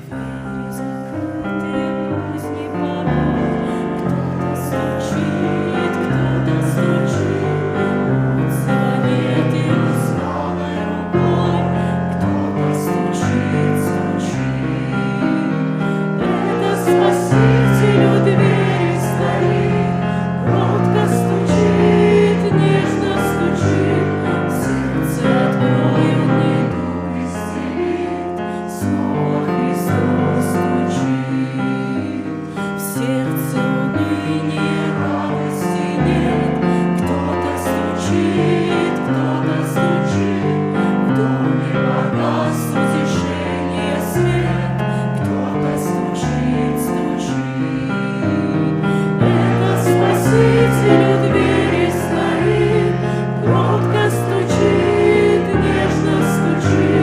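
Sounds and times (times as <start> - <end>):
piano chords: 0.0 - 57.0
singing: 0.0 - 57.0.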